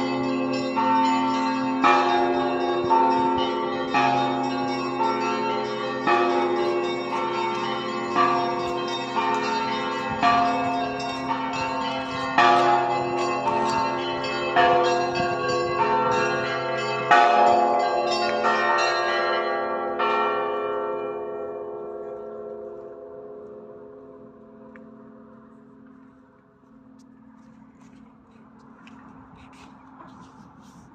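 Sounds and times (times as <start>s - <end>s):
church bells ringing: 0.0s - 28.9s.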